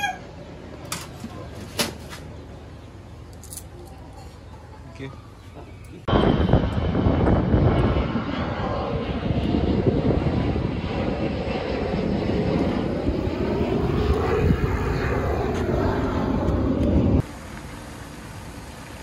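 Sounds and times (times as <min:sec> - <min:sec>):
jet airliner engine roar: 0:00.0 - 0:03.3, 0:05.2 - 0:19.0.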